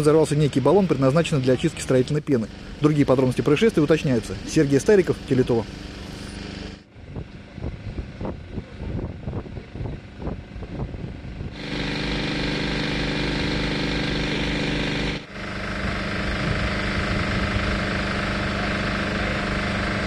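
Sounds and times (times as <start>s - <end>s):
engine-like running sound: 0.0s - 20.0s
vehicle engine idling: 0.0s - 20.0s.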